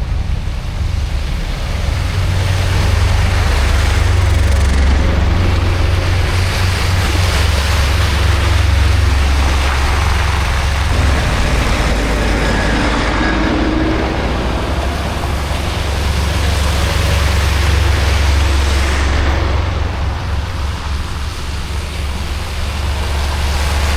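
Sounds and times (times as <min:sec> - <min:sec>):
heavy vehicle engine rumble: 0:00.0 - 0:23.9
road noise: 0:00.0 - 0:23.9.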